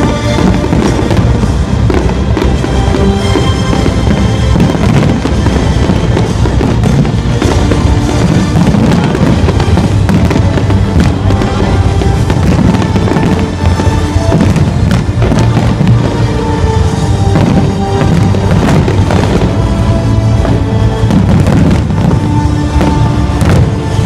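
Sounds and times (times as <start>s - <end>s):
fireworks bursting and crackling: 0.0s - 24.0s
loud music: 0.0s - 24.0s.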